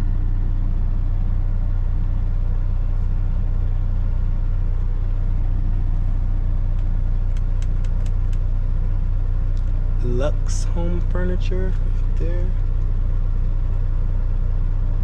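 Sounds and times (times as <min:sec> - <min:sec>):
road noise: 0:00.0 - 0:14.6
diesel truck engine drone: 0:00.0 - 0:15.0.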